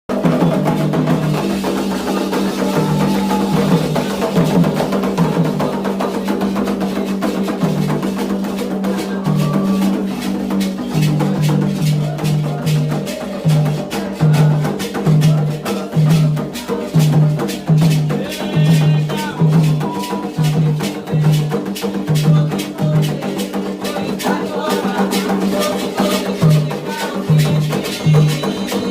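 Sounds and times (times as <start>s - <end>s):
drums and percussion playing: 0.1s - 28.9s.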